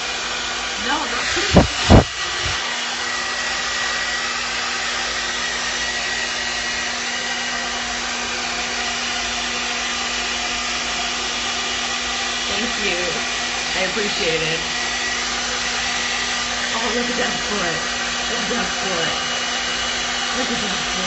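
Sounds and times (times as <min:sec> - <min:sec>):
hairdryer blowing: 0:00.0 - 0:21.0.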